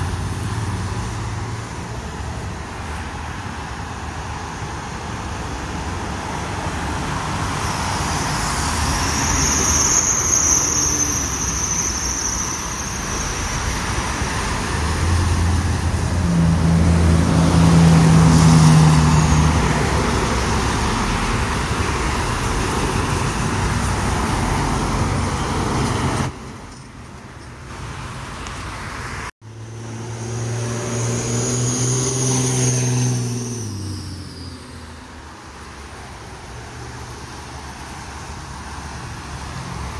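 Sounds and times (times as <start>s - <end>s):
road traffic passing at speed: 0.0s - 39.9s.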